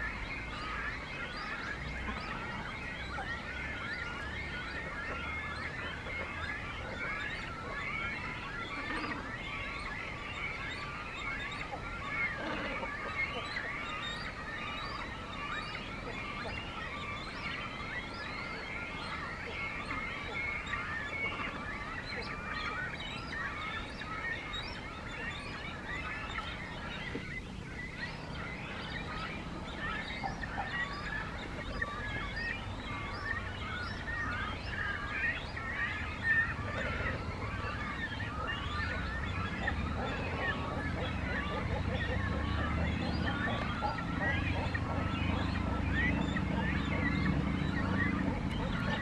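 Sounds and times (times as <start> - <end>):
chatter of bird calls: 0.0 - 49.0.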